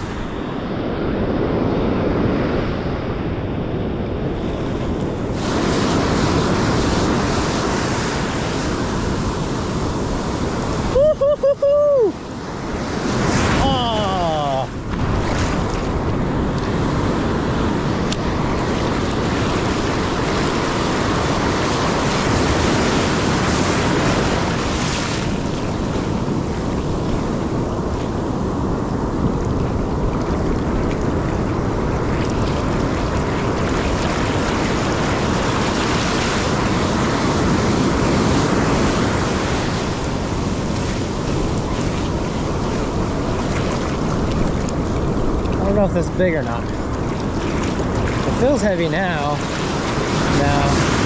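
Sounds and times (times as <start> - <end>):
ocean surf washing onto beach: 0.0 - 51.0
wind buffeting microphone: 0.0 - 51.0.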